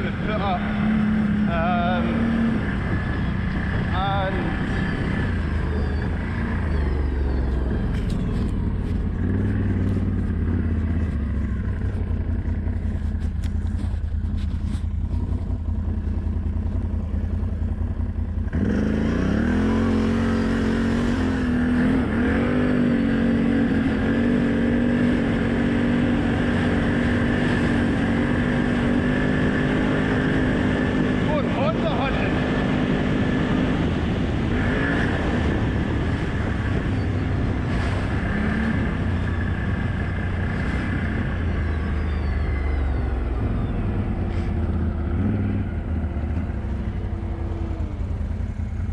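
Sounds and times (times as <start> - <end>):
quad bike engine rumbling: 0.0 - 48.9.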